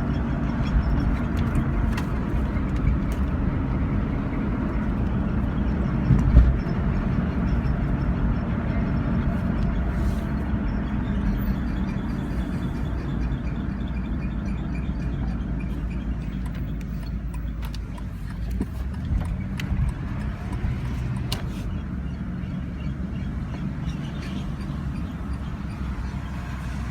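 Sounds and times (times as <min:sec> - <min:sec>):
car road and engine rumble: 0:00.0 - 0:26.9.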